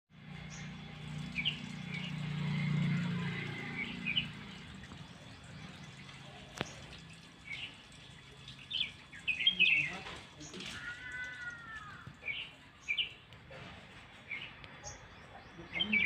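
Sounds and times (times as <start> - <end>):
birds chirping: 0.2 - 16.0.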